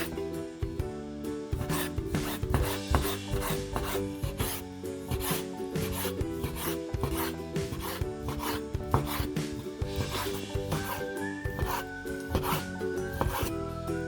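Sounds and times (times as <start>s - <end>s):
background music: 0.0s - 14.0s
rasping scraping strokes: 1.6s - 13.8s.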